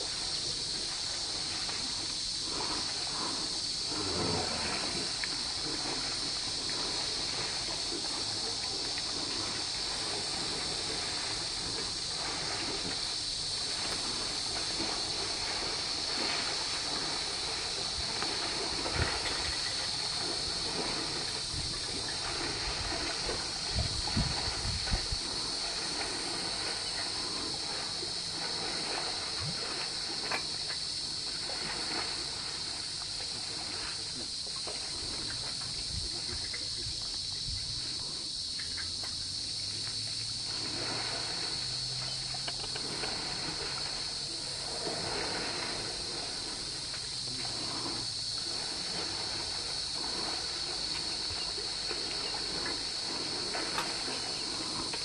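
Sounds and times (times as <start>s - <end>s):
high insect drone: 0.0s - 55.0s
muddy water sloshing and splashing: 0.0s - 55.0s.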